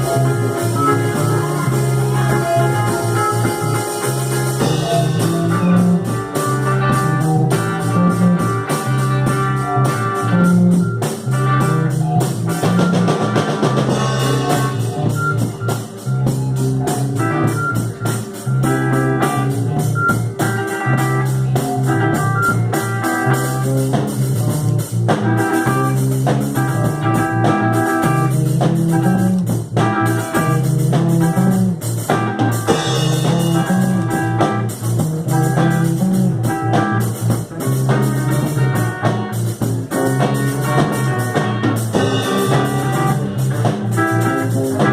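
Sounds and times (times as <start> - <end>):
bass line: 0.0 - 44.9
drum kit: 0.0 - 44.9
electric guitars: 0.0 - 44.9
synthesizer organ: 0.0 - 44.9.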